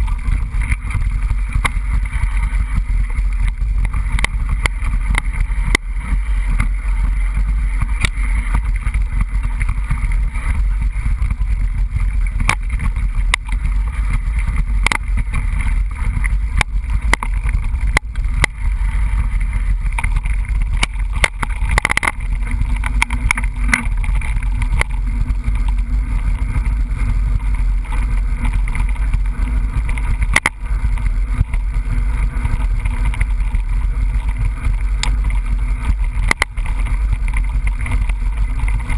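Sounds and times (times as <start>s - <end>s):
bike clicks and rattles: 0.0s - 38.9s
wind rumble on microphone: 0.0s - 38.9s.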